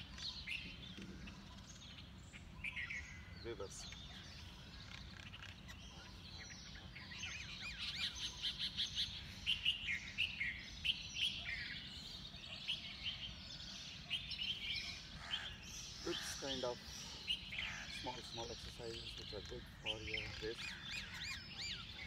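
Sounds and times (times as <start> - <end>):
low steady background noise: 0.0 - 22.0
wild birds chirping: 0.0 - 22.0.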